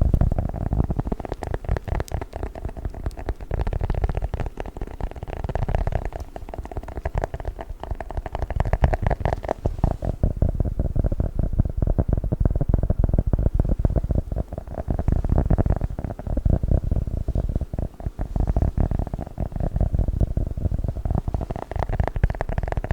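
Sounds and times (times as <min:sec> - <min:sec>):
small clicks and scratchy tapping: 0:00.0 - 0:22.9.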